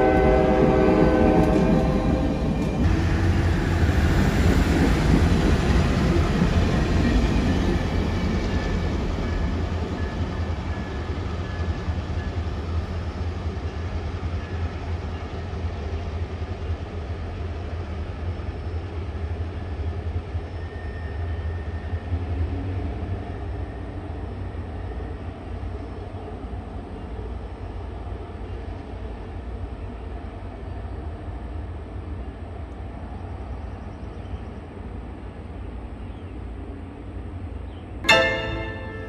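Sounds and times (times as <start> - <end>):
train cars rumbling over bridge: 0.0 - 39.0.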